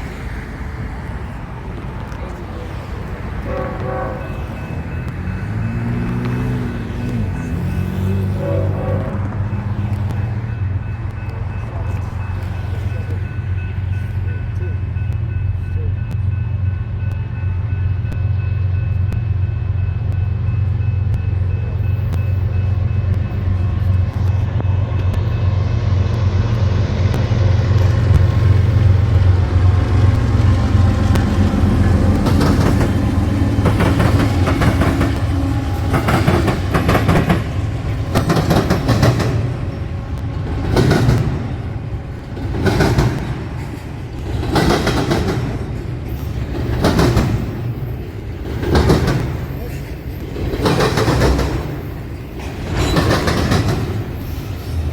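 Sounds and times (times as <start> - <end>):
diesel locomotive drone: 0.0 - 54.9
train wheels clickety-clack: 1.0 - 54.9.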